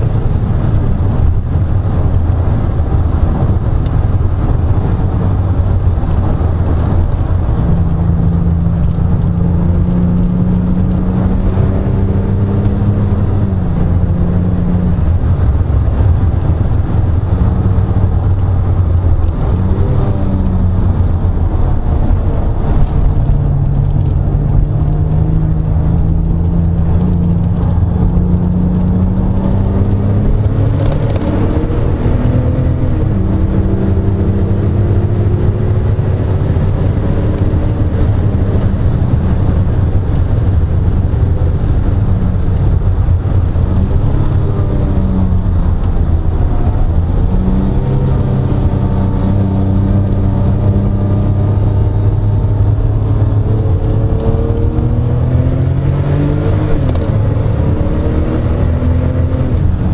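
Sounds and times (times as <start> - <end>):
car engine revving: 0.0 - 59.9
road and wind noise: 0.0 - 59.9.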